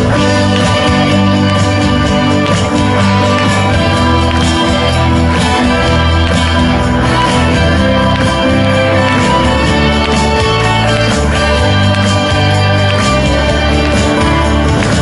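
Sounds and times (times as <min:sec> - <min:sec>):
instrumental pop music: 0:00.0 - 0:15.0.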